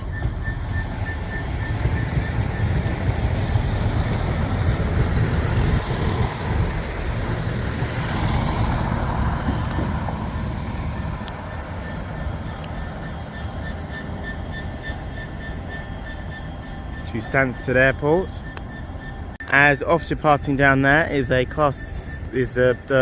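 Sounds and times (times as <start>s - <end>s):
diesel train rumbling past: 0.0s - 23.0s.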